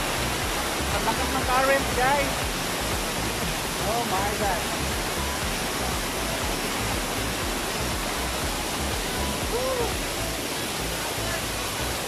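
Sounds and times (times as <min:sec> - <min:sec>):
waterfall splashing onto rock: 0:00.0 - 0:12.0.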